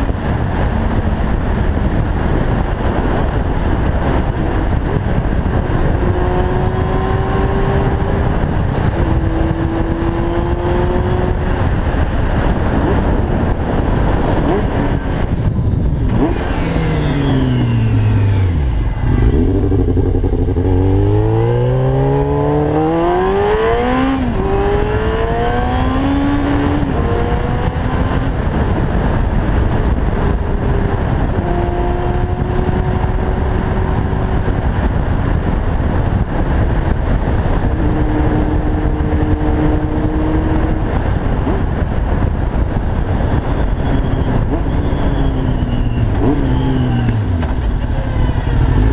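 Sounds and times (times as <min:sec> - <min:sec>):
motorcycle engine accelerating: 0:00.0 - 0:48.9
wind rush: 0:00.0 - 0:48.9.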